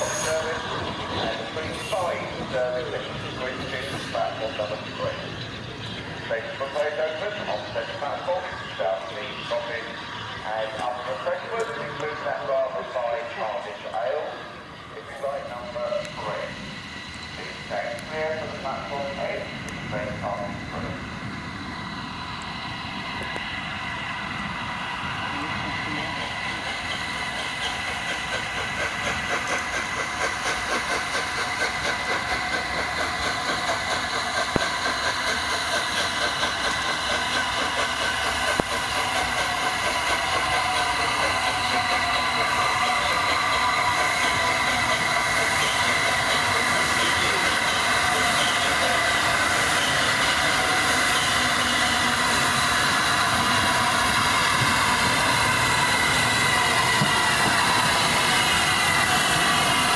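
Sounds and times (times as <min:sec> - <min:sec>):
steam train running on rails: 0:00.0 - 0:59.9.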